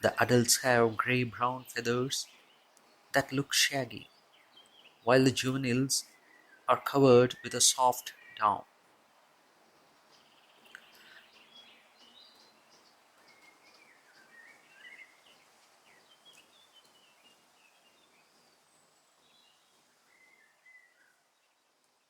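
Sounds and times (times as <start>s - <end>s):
small birds chirping: 0.0s - 22.0s
soft background hiss: 0.0s - 22.0s.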